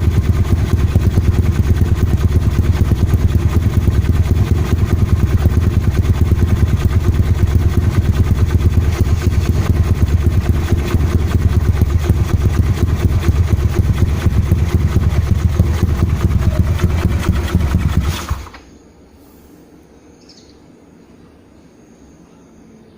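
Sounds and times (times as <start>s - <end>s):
scooter engine running: 0.0s - 18.6s.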